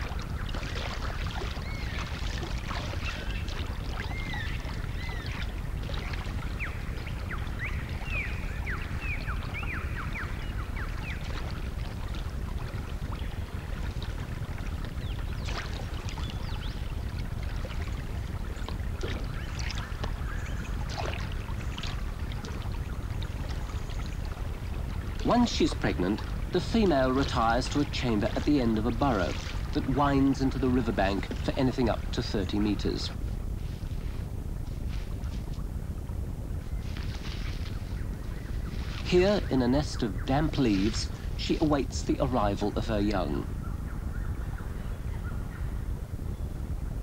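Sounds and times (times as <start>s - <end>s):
small water splashes: 0.0s - 42.6s
river water running and lapping: 0.0s - 46.1s.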